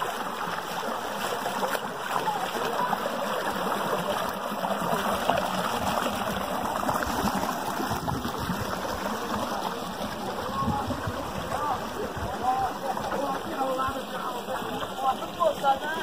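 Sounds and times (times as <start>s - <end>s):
feet wading and splashing: 0.0s - 16.0s
stream water rippling over rocks: 0.0s - 16.0s.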